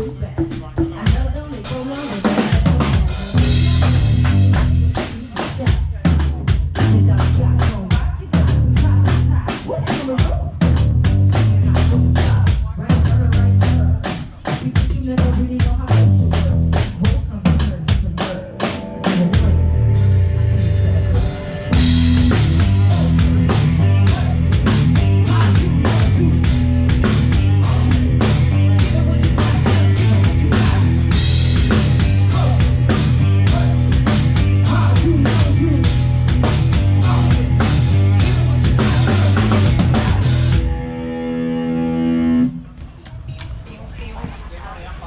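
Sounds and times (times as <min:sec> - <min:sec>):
live band playing: 0:00.0 - 0:12.4, 0:16.3 - 0:42.6
drum kit beat: 0:00.0 - 0:40.8
heavy bass line: 0:02.5 - 0:14.1, 0:15.1 - 0:18.0, 0:19.1 - 0:42.6.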